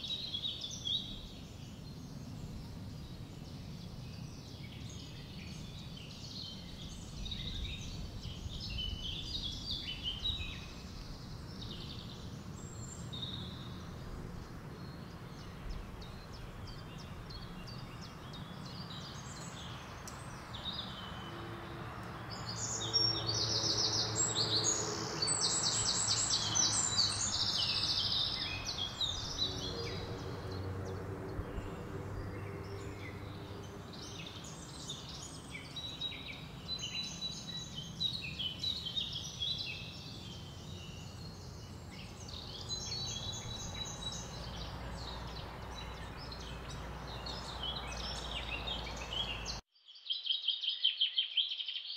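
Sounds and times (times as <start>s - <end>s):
steady outdoor hiss: 0.0s - 49.6s
birds chirping and trilling: 0.0s - 51.9s.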